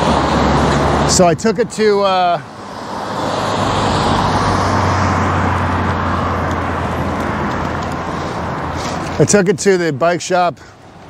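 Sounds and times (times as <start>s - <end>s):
vehicle passing: 0.0s - 10.0s.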